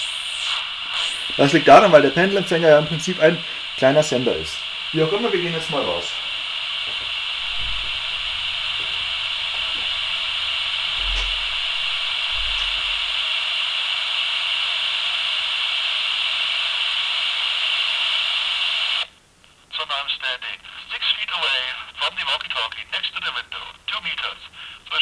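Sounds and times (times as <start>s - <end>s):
walkie-talkie static hiss: 0.0s - 25.0s.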